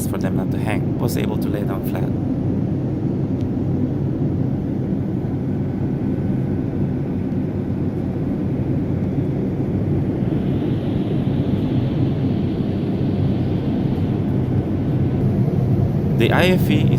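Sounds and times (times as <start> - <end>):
airliner cabin rumble: 0.0 - 16.9.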